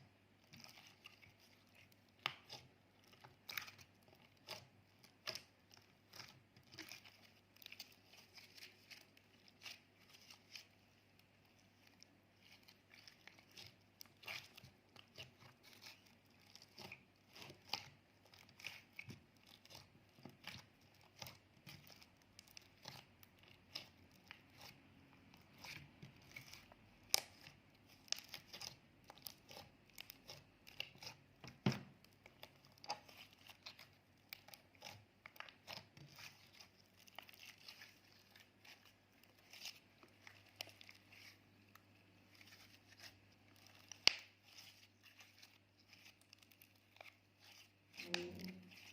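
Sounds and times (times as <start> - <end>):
slime crackling and popping: 0.4 - 48.9.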